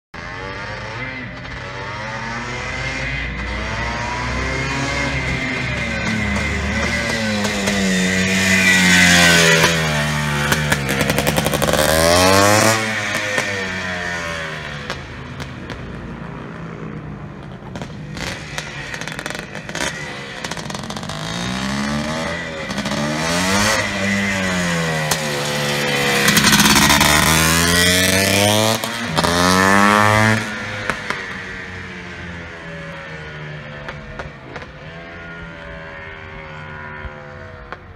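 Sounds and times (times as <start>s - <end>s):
motocross bike revving: 0.2s - 15.8s, 17.3s - 37.9s.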